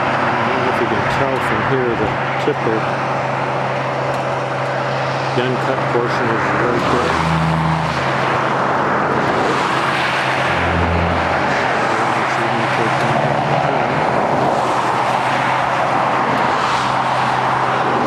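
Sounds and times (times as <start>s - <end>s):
car engine hum: 0.0s - 18.0s
road noise: 0.0s - 18.0s.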